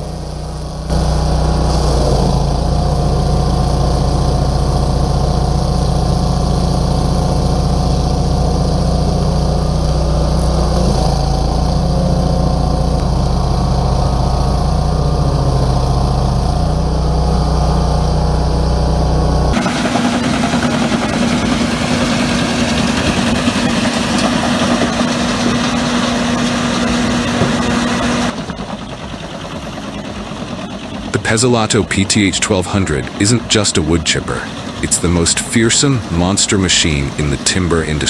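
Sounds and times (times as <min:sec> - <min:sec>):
heavy machine engine running: 0:00.0 - 0:38.0.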